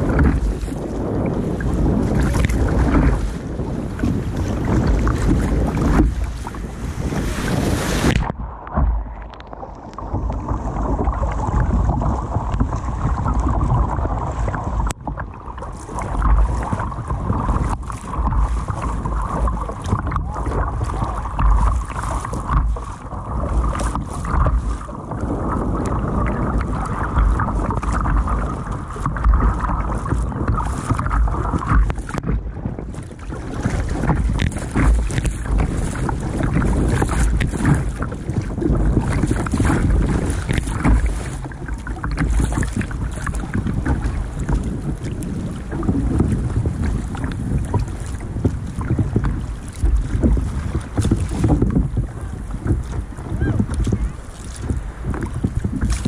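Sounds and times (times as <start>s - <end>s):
water splashing against kayak: 0.0s - 56.0s
wind buffeting microphone: 0.0s - 56.0s.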